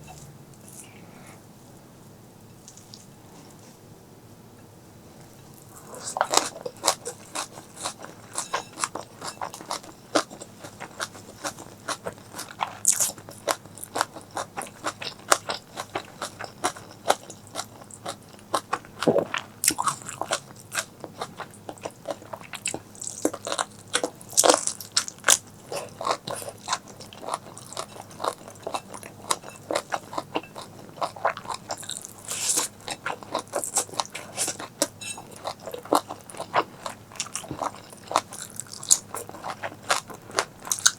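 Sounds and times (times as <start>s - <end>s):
person chewing crunchy food: 5.6s - 40.9s.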